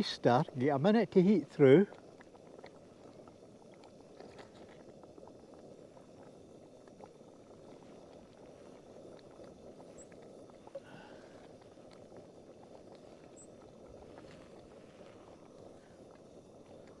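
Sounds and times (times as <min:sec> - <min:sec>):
pot simmering on a burner: 0:00.0 - 0:17.0.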